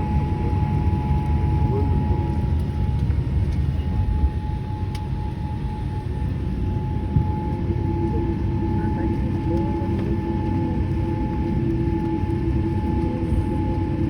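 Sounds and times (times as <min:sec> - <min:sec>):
aircraft cabin rumble: 0:00.0 - 0:14.0
lower whine: 0:00.0 - 0:14.0
steady whine: 0:00.0 - 0:14.0.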